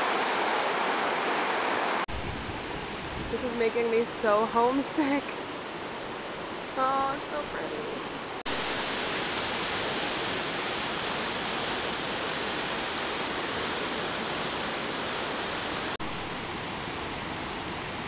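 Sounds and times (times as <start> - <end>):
river rushing over rocks: 0.0 - 3.0, 4.2 - 18.0.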